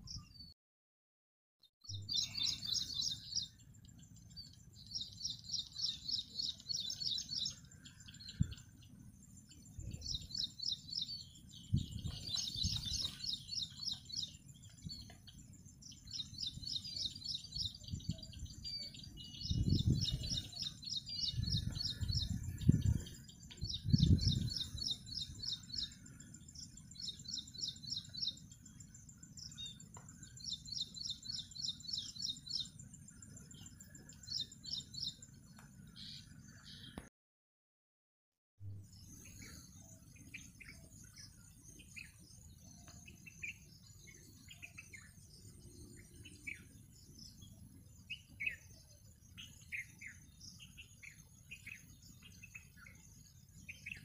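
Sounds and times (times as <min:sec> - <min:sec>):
small birds chirping: 0:00.0 - 0:00.6, 0:01.8 - 0:37.1, 0:38.7 - 0:54.0.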